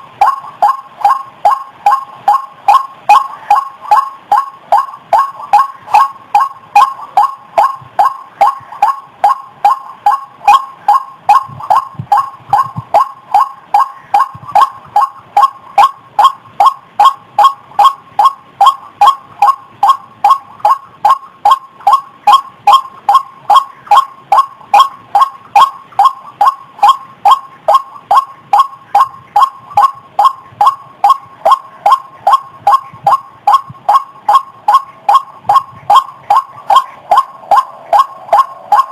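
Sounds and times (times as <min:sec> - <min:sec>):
waterhen calling: 0:00.0 - 0:38.9.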